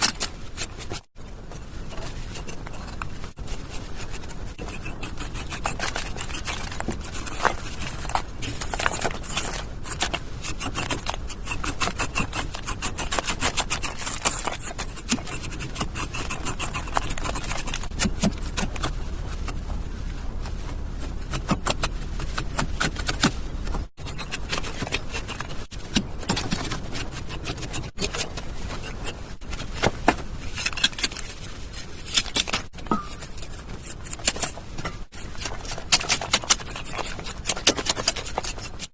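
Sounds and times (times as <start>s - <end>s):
hand tool scraping mortar: 0.0s - 38.9s.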